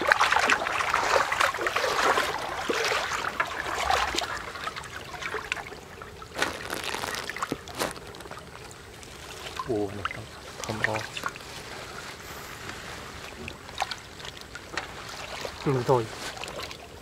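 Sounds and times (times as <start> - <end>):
shallow water splashing: 0.0 - 17.0.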